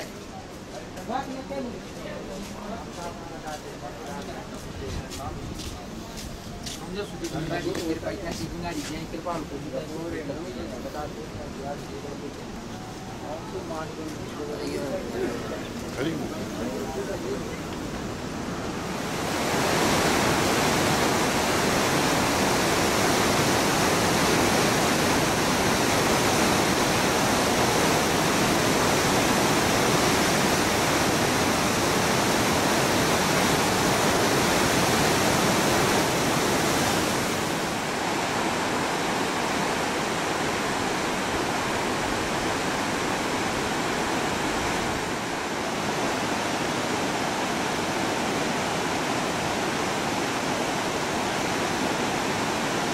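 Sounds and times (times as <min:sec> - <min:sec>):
river rushing over boulders: 0:06.9 - 0:52.9.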